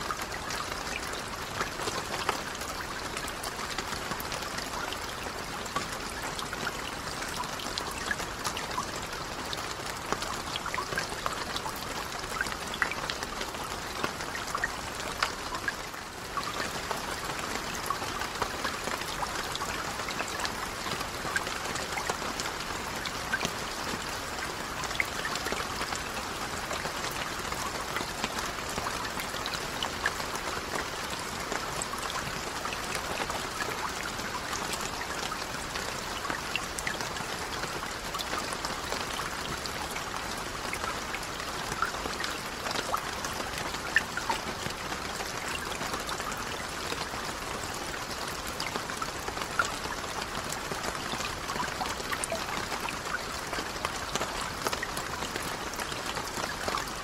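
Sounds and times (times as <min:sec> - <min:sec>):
rain falling on water: 0:00.0 - 0:57.0.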